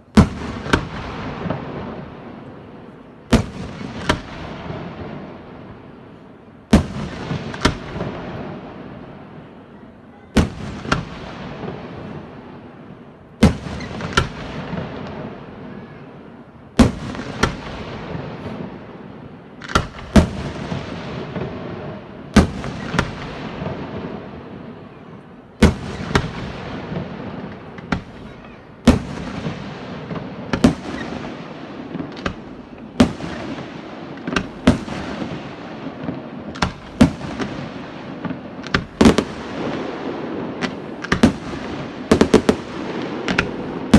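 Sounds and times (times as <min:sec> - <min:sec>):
fireworks bursting with bangs: 0:00.0 - 0:43.9
fireworks crackling: 0:00.0 - 0:43.9.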